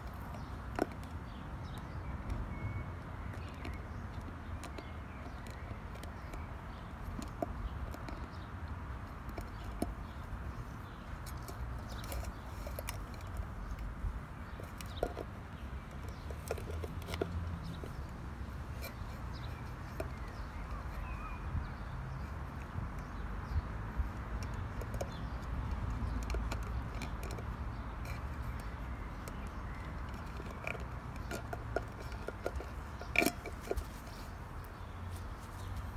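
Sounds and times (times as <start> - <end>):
teeth tapping on tin can: 3.2 - 34.9.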